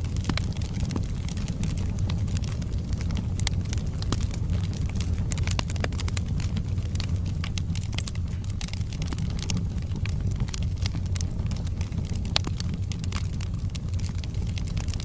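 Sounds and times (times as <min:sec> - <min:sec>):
burning logs crackling and popping: 0:00.0 - 0:15.0
fire rumbling: 0:00.0 - 0:15.0.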